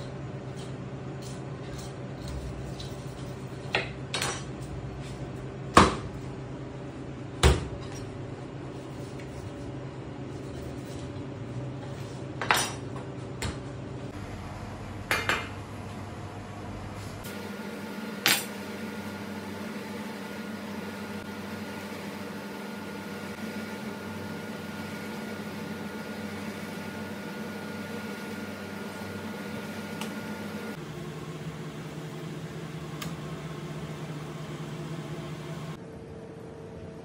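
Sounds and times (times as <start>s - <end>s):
kitchen hum: 0.0s - 37.0s.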